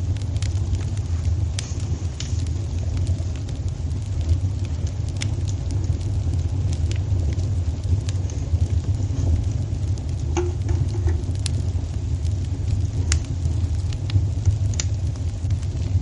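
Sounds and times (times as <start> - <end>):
fire flames rumbling: 0.0 - 16.0
wood fire crackling and popping: 0.0 - 16.0.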